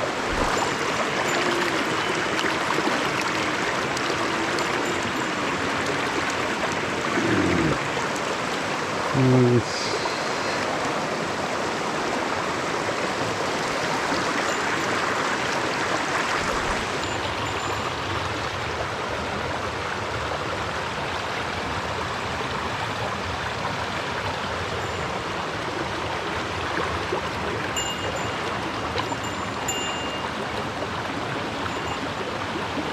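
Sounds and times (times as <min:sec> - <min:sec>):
stream running over rocks: 0:00.0 - 0:32.9.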